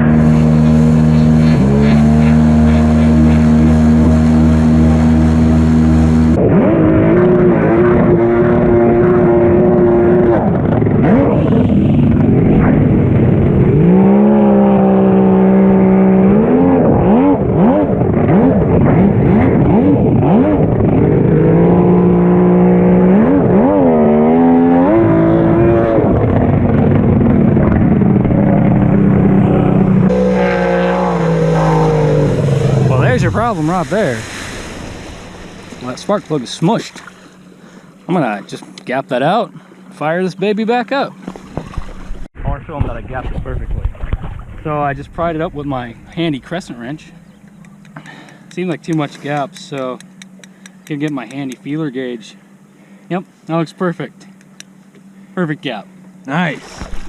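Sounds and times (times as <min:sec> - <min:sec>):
jet ski engine revving: 0:00.0 - 0:42.3, 0:44.9 - 0:57.0.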